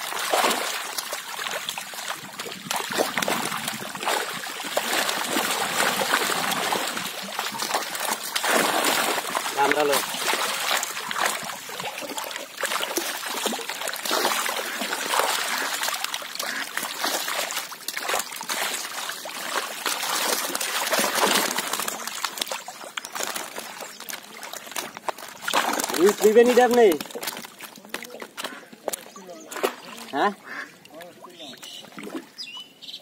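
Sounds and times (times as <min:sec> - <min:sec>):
basket scooping through water: 0:00.0 - 0:30.1
fish thrashing in water: 0:00.0 - 0:32.4.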